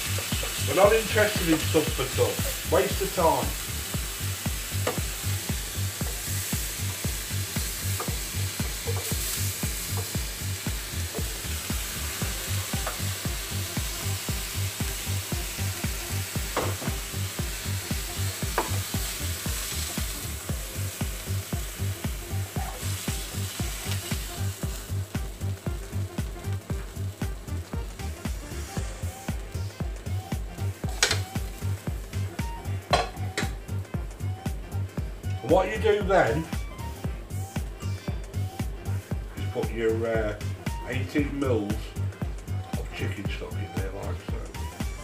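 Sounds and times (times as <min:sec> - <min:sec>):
food sizzling in frying pan: 0:00.0 - 0:39.5
background music with bass beat: 0:00.0 - 0:45.0.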